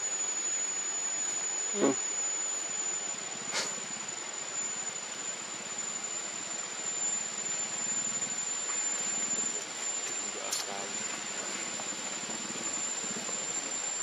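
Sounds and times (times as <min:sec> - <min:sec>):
forest noise hiss: 0:00.0 - 0:14.0
high-pitched insect drone: 0:00.0 - 0:14.0.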